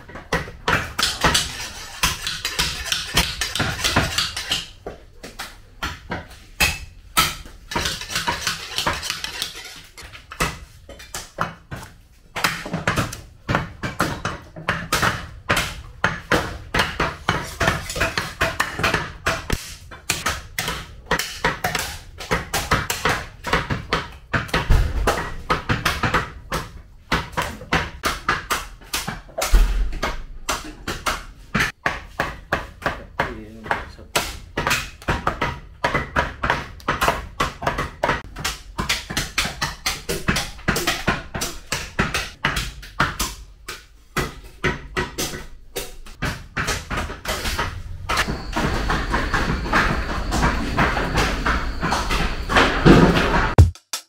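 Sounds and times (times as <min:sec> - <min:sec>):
cleavers chopping meat: 0:00.0 - 0:53.8.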